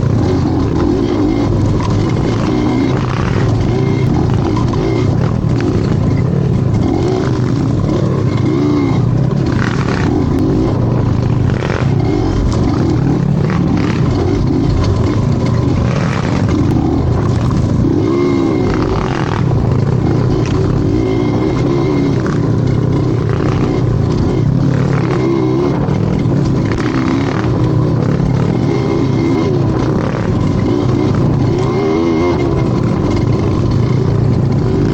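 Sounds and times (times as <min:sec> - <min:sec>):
vehicle engine revving: 0:00.0 - 0:34.9.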